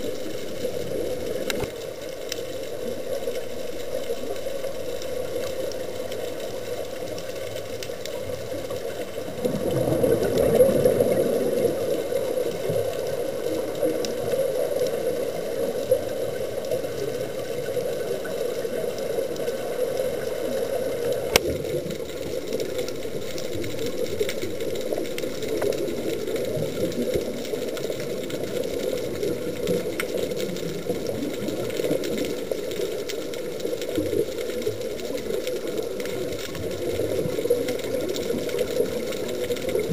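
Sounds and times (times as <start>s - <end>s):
muffled underwater rush: 0.0s - 39.9s
scuba bubbles: 0.0s - 39.9s.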